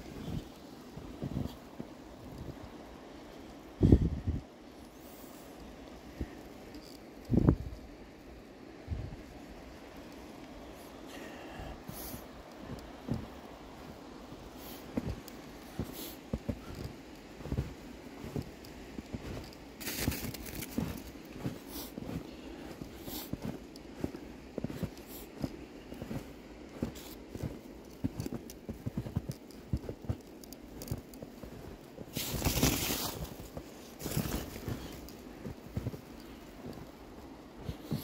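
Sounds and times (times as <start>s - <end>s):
footsteps crunching in snow: 0.0s - 3.0s, 9.2s - 38.0s.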